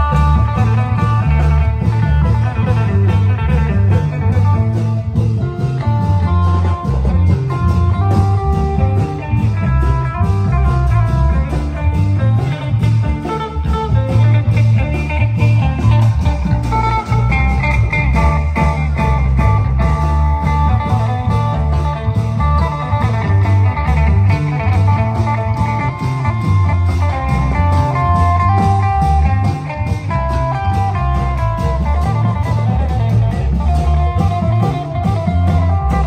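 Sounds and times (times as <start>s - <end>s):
folk drum band music: 0.0s - 36.0s.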